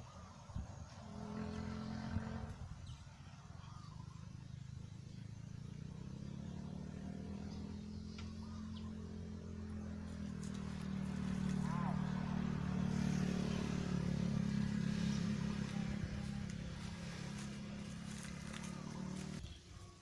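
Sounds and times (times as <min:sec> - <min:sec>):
vehicle engine humming: 0:00.6 - 0:19.6.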